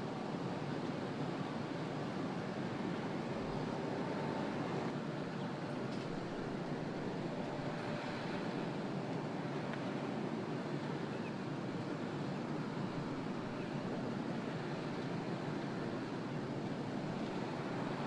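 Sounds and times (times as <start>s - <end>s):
faint machinery hum: 0.0s - 18.0s
wind: 0.0s - 18.0s.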